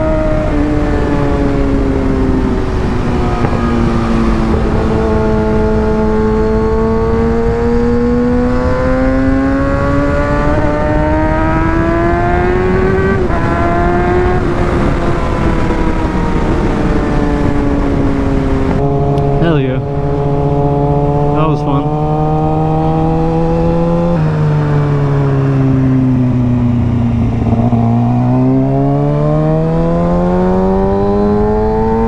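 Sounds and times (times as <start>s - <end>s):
wind rush: 0.0s - 31.7s
motorcycle engine accelerating: 0.0s - 32.0s.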